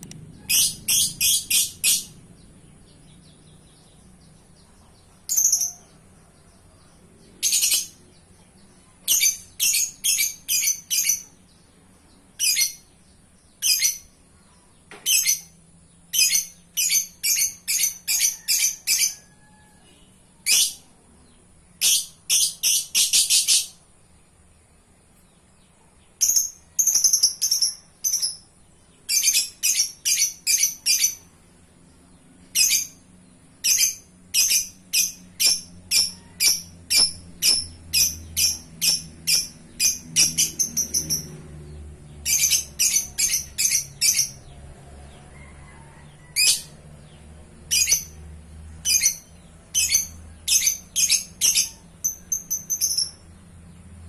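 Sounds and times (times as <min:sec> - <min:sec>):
bird chirping high-pitched: 0:00.0 - 0:06.2, 0:07.3 - 0:11.6, 0:12.2 - 0:19.4, 0:20.0 - 0:21.0, 0:21.8 - 0:23.9, 0:26.2 - 0:31.3, 0:32.3 - 0:44.6, 0:46.3 - 0:46.8, 0:47.6 - 0:53.5.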